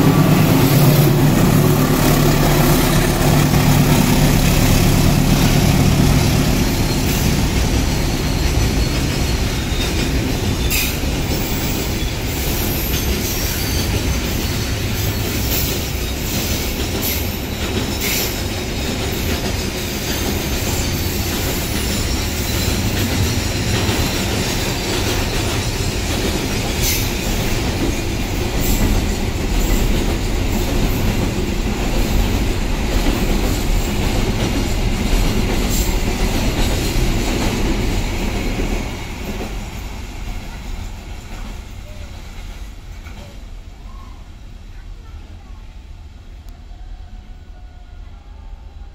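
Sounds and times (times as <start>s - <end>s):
wheels clacking over rail joints: 0.0s - 43.5s
freight train wheels rumbling: 0.0s - 48.9s.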